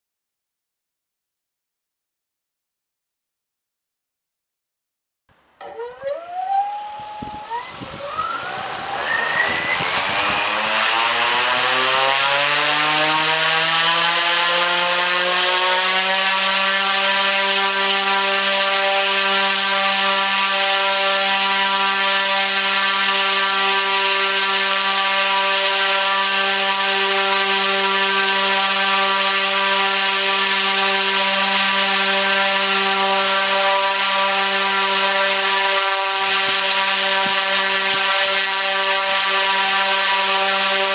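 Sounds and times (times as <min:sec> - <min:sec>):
electric motor and propeller whine: 0:05.6 - 0:40.9.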